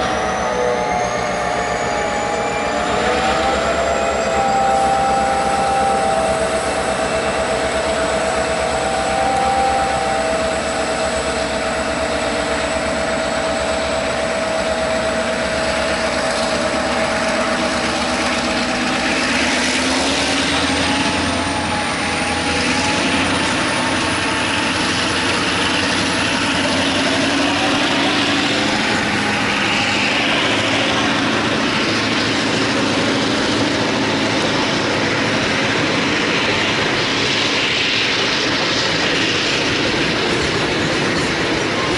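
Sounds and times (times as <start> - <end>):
diesel locomotive engines: 0.0 - 41.9
train wagons rolling past: 0.0 - 41.9.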